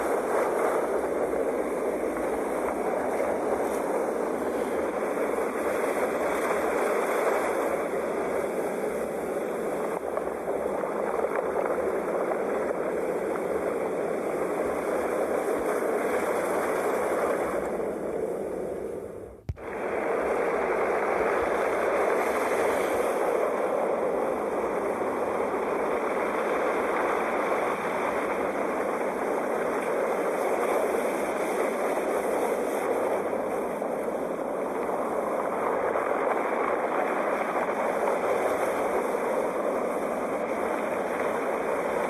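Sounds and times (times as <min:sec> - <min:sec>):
sea waves washing in: 0:00.0 - 0:42.0.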